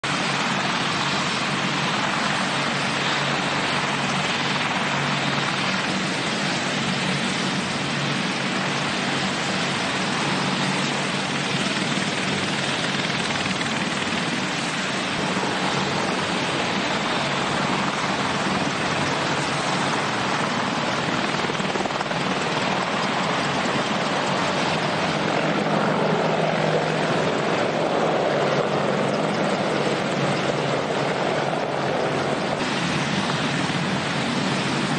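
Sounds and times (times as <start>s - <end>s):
helicopter rotor and engine noise: 0.0s - 34.9s.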